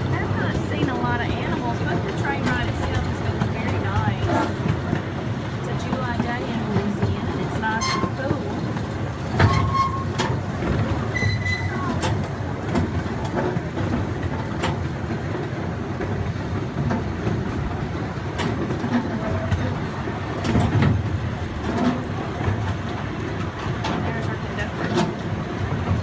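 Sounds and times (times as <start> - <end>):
miniature train rumble: 0.0 - 26.0
wheel and coupling clacks: 1.8 - 17.7, 18.3 - 26.0.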